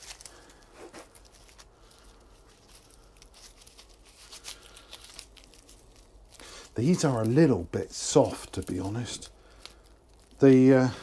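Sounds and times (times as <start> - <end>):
garlic skins rustling and crackling: 0.0 - 11.0.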